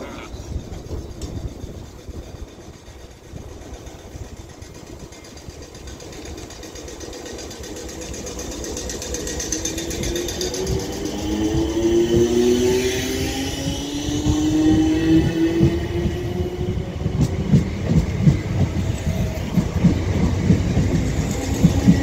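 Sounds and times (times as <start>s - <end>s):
train running: 0.0s - 22.0s.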